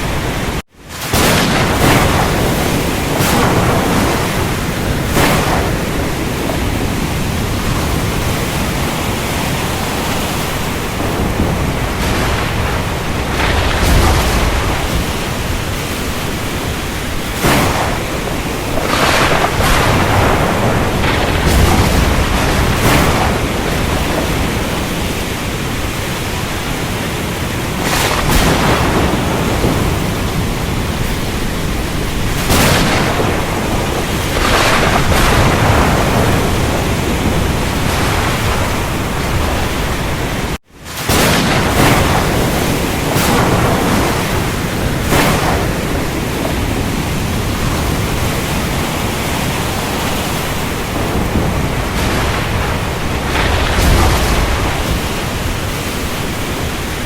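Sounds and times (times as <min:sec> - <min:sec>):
heavy rain: 0:00.0 - 0:57.0
thunder: 0:00.0 - 0:57.0.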